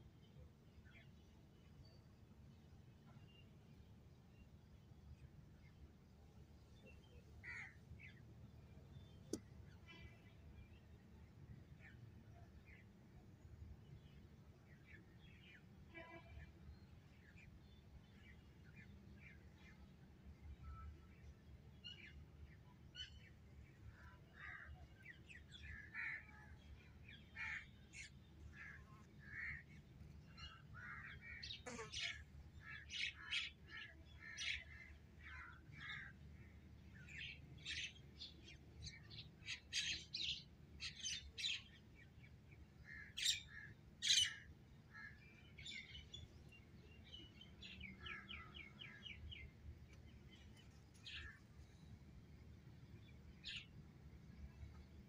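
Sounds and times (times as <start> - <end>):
faint birds chirping: 0.0 - 55.0.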